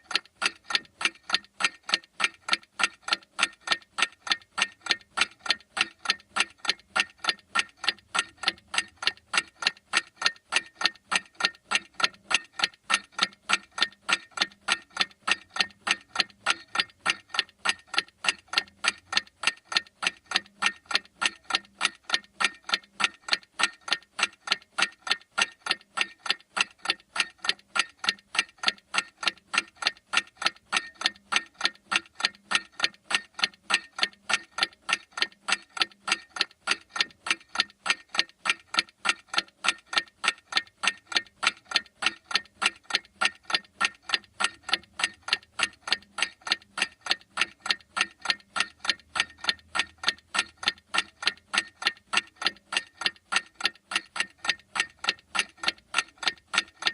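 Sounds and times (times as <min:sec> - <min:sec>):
clock ticking: 0:00.0 - 0:56.9.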